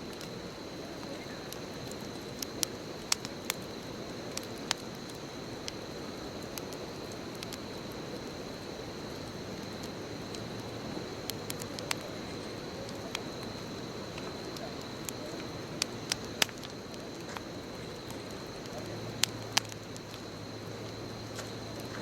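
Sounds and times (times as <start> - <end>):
bonfire flames rushing: 0.0 - 22.0
burning wood crackling and popping: 0.0 - 22.0.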